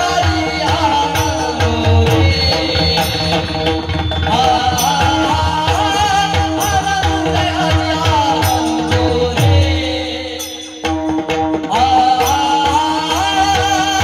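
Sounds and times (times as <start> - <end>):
tabla drumming: 0.0 - 14.0.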